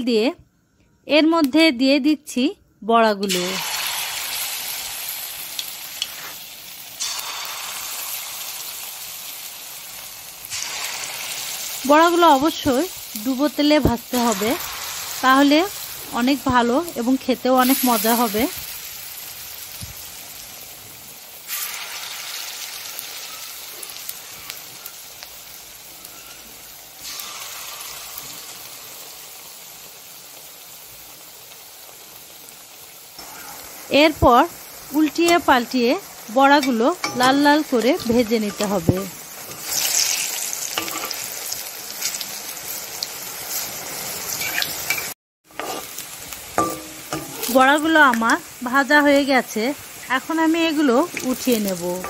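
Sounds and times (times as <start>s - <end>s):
fritters sizzling in hot oil: 3.2s - 52.0s.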